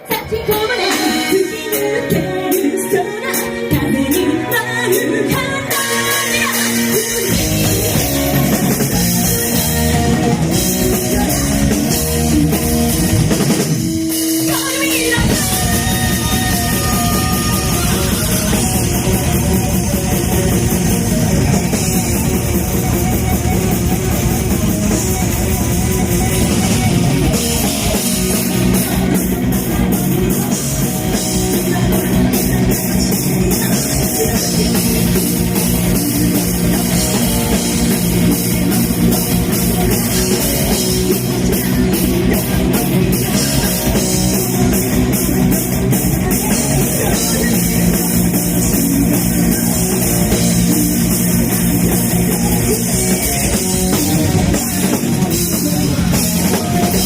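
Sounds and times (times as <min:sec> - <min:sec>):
bass guitar: 0:00.0 - 0:57.0
distorted electric guitars: 0:00.0 - 0:57.0
drum kit: 0:00.0 - 0:57.0.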